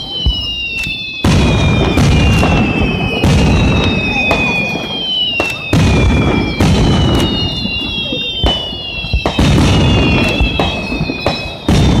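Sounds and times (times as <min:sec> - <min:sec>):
fireworks booming: 0:00.0 - 0:12.0
high whistling tones sliding down: 0:00.0 - 0:12.0.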